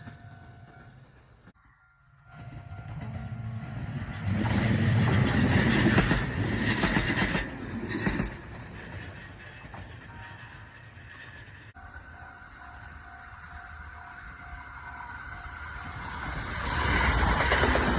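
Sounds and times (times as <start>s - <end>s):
electric train passing: 0.0s - 17.9s.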